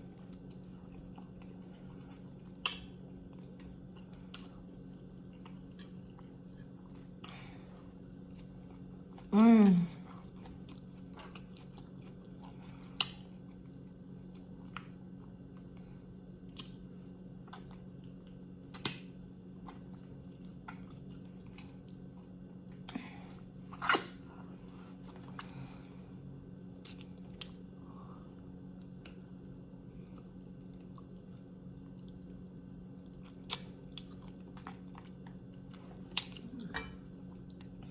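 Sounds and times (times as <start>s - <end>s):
soft wet chewing: 0.0s - 37.9s
steady low hum: 0.0s - 37.9s.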